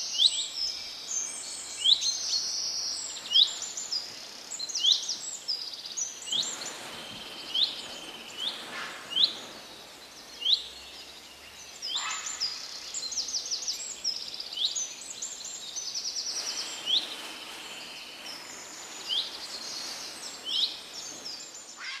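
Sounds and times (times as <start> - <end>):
faint background noise: 0.0 - 22.0.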